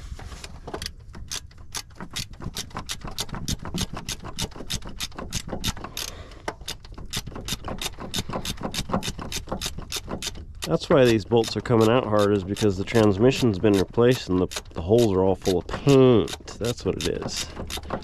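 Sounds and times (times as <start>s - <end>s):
ratchet wrench clicking: 0.8s - 18.0s.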